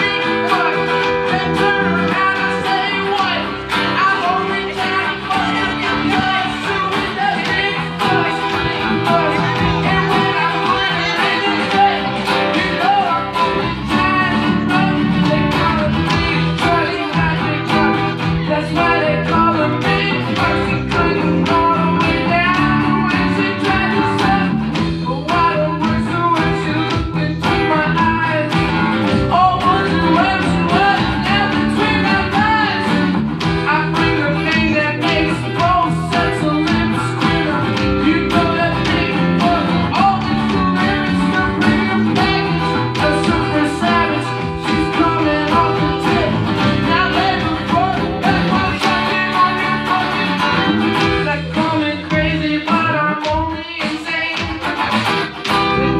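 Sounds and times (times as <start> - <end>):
electric guitar backing: 0.0 - 55.9
man singing: 0.0 - 55.9
steady beat: 0.0 - 55.9
strummed acoustic guitar: 0.0 - 55.9.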